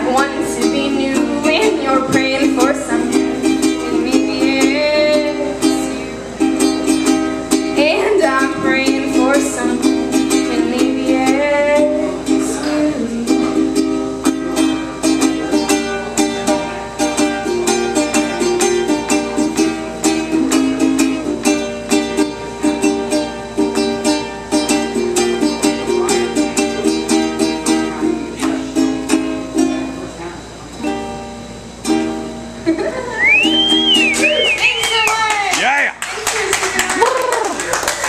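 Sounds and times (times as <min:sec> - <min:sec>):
ukulele strumming chords: 0:00.0 - 0:36.0.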